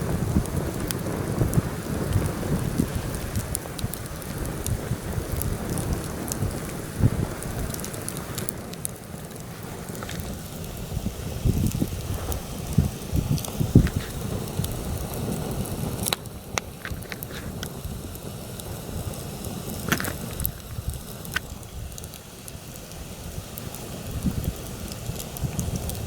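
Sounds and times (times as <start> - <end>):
campfire crackling and popping: 0.0 - 26.0
wind rumbling on microphone: 0.0 - 26.0.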